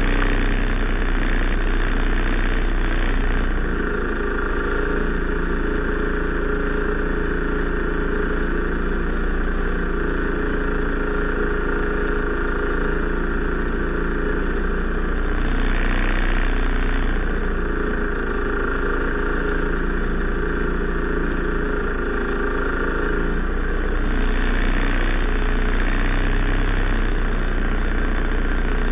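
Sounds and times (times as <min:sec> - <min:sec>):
small engine idling: 0:00.0 - 0:28.9.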